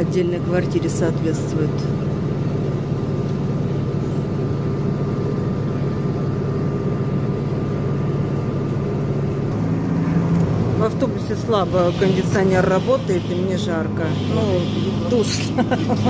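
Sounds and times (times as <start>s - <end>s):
air-conditioning blowing: 0.0s - 16.0s
bus engine humming: 0.0s - 16.0s.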